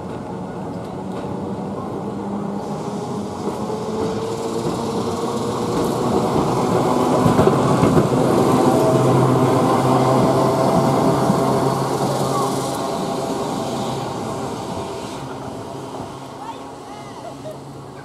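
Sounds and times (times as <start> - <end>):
tram motors humming: 0.0 - 18.0
tram wheels rumbling on rails: 0.0 - 18.0.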